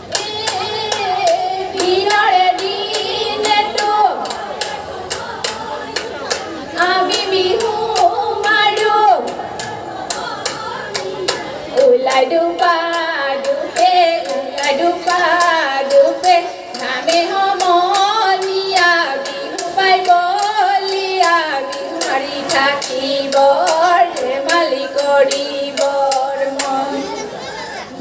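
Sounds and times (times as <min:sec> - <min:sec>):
women singing: 0:00.0 - 0:27.2.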